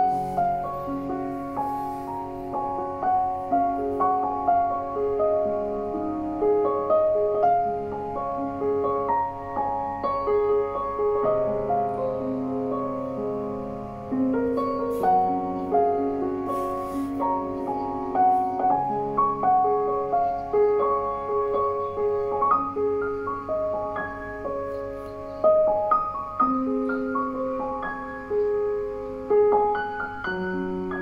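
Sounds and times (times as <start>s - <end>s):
slow piano melody: 0.0s - 31.0s.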